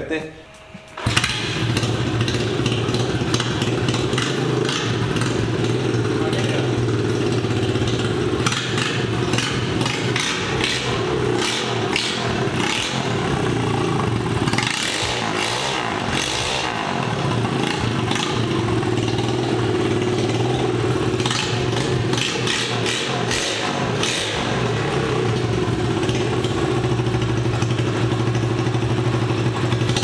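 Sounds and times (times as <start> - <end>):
motorcycle engine running and revving: 1.0 - 30.0.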